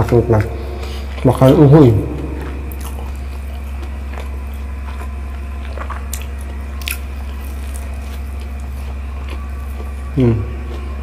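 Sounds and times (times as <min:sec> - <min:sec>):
chewing pastry: 0:00.0 - 0:11.0
steady low hum: 0:00.0 - 0:11.0.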